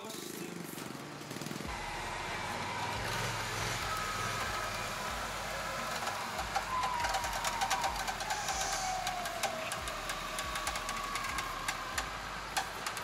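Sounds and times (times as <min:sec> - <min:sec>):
quad engine whining: 0:00.0 - 0:13.0
rapid sharp clicks and rattles: 0:00.0 - 0:13.0.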